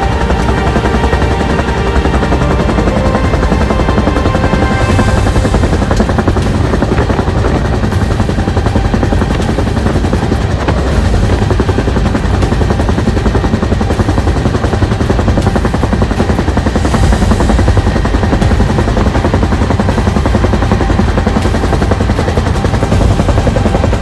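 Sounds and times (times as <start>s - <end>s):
helicopter rotor chopping: 0.0s - 24.0s
turbine engine running: 0.0s - 24.0s.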